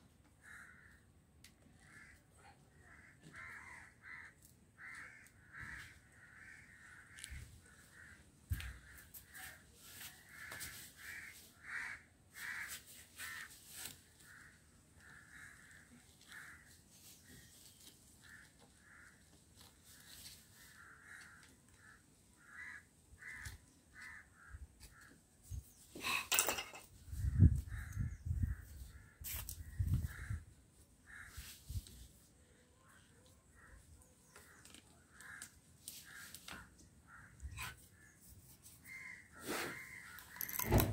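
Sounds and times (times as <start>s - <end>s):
crows cawing: 0.3s - 17.5s, 18.2s - 25.2s, 27.6s - 31.6s, 32.9s - 38.2s, 38.8s - 40.7s.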